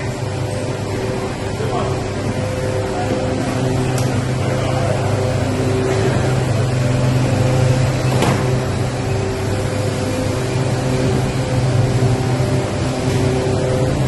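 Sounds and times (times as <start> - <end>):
factory machinery humming: 0.0 - 14.0
machine tones: 0.0 - 14.0.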